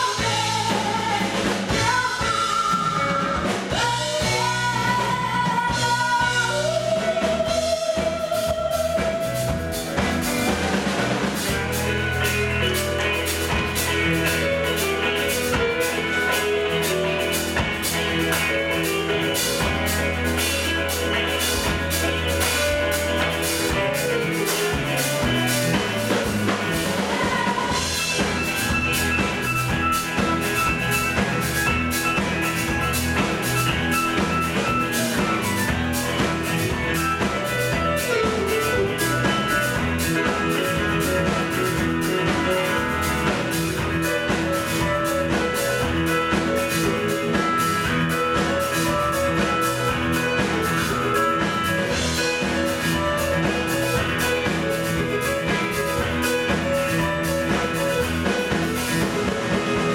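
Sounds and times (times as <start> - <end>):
acoustic and electric guitars: 0.0 - 59.9
drum kit beat: 0.0 - 59.9.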